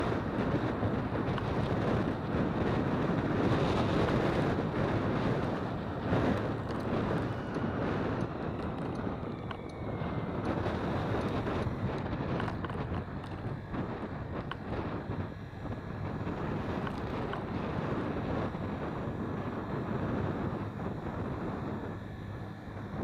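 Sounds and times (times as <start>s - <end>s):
jet airliner roar overhead: 0.0s - 23.0s
wind buffeting microphone: 0.0s - 23.0s
faint falling whine: 2.7s - 23.0s.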